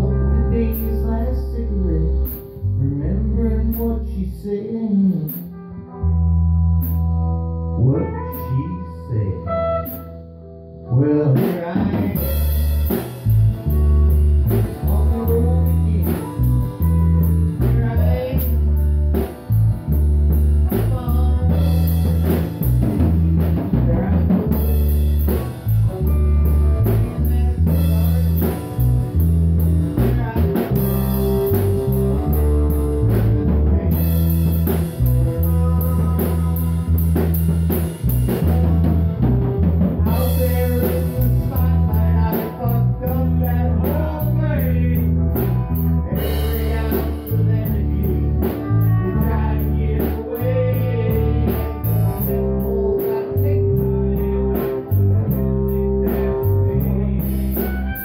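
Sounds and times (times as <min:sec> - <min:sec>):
drum kit with cymbal hits: 0:00.0 - 0:01.2, 0:02.2 - 0:02.7, 0:05.1 - 0:05.6, 0:06.8 - 0:07.3, 0:09.5 - 0:10.2, 0:11.3 - 0:58.0
electric bass line: 0:00.0 - 0:58.0.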